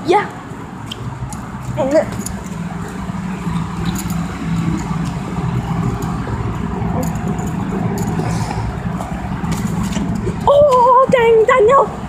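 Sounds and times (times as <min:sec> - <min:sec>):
car engine idling: 0:00.4 - 0:12.0.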